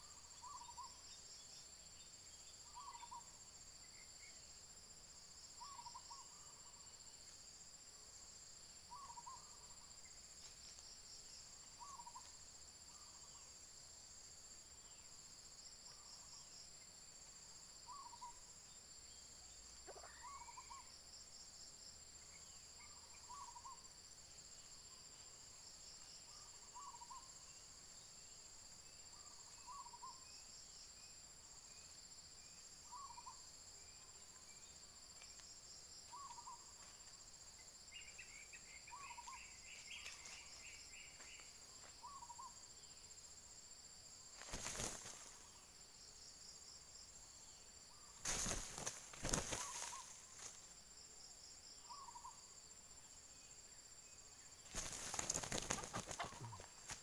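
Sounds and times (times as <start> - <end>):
high drone of insects: 0.0 - 57.0.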